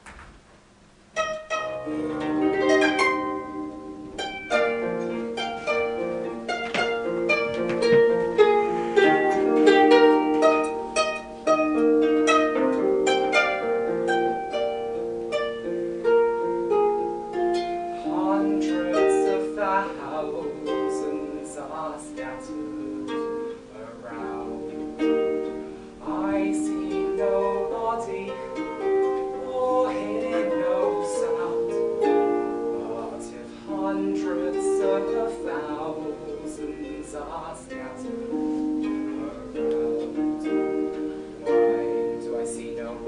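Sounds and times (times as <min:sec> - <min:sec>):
plucked string instrument: 0:01.1 - 0:43.0.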